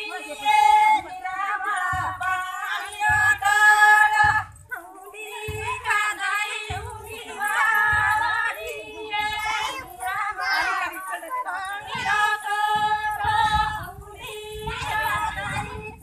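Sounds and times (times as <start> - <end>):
group of women singing: 0.0 - 16.0
low thump keeping time: 0.1 - 16.0.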